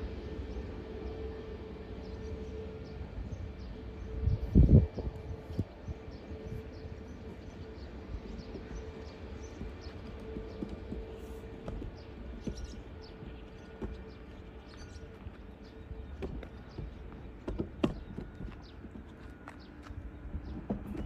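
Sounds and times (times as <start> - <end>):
distant jet engines humming: 0.0 - 21.0
birds chirping: 0.4 - 21.0.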